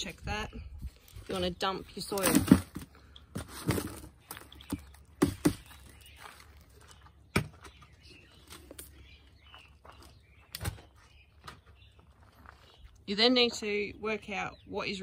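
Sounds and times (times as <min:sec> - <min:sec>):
potting soil rustling: 0:00.0 - 0:14.3.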